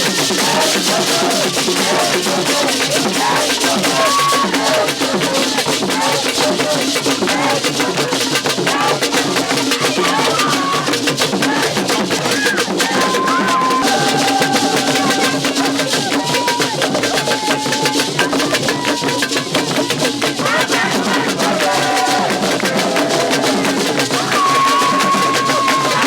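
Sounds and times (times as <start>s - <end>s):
rapid drumming and percussion: 0.0s - 26.0s
voices singing: 0.0s - 26.0s.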